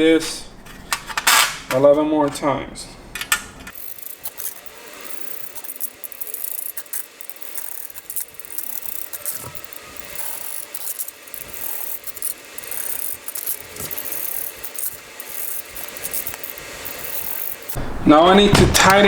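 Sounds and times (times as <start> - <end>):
metal bolts clicking and scraping: 0.7 - 2.5, 3.2 - 17.8.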